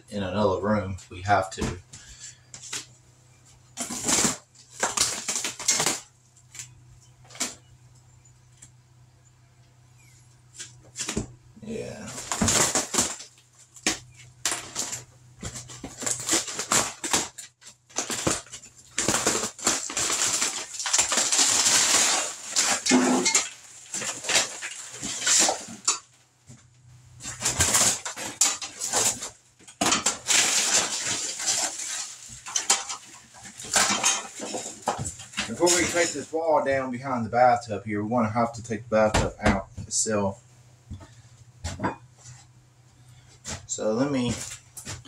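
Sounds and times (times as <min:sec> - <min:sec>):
wood paneling scraping and cracking: 0:01.1 - 0:07.7, 0:10.0 - 0:26.2, 0:27.2 - 0:36.9, 0:40.9 - 0:45.0.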